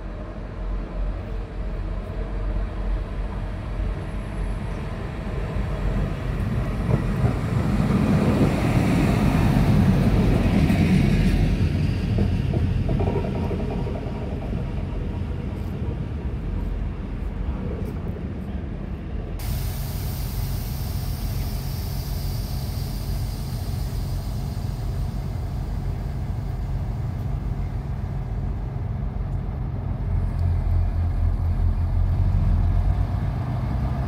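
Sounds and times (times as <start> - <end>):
railcar passing on track: 0.0 - 34.0.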